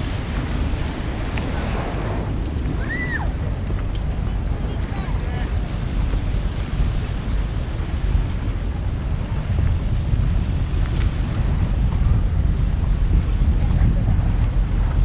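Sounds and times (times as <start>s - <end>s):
waves along shore: 0.0s - 15.0s
wind buffeting microphone: 0.0s - 15.0s.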